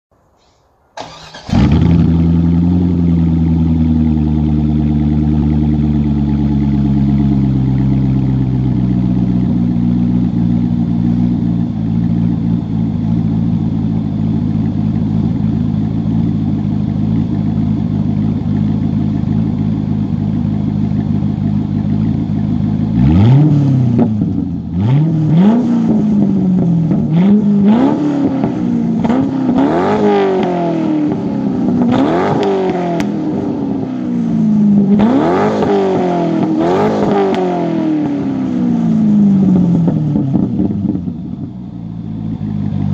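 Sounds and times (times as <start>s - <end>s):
car engine idling and revving: 1.0s - 42.9s.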